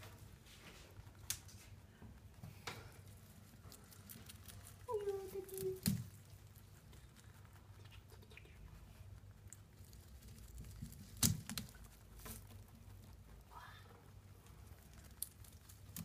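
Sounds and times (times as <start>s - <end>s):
rabbit nibbling and crunching: 0.0s - 16.0s.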